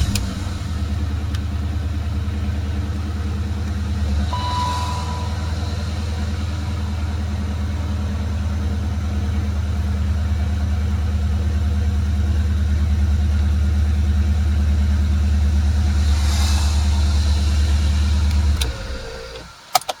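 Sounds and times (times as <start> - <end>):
car engine idling: 0.0 - 19.7.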